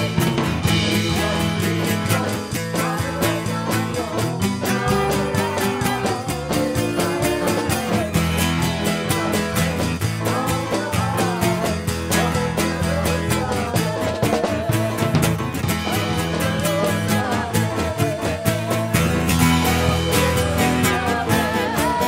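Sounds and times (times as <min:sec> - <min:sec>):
driving drum beat: 0:00.0 - 0:22.0
electric guitar: 0:00.0 - 0:22.0
keyboard: 0:00.0 - 0:22.0
people singing: 0:00.0 - 0:22.0.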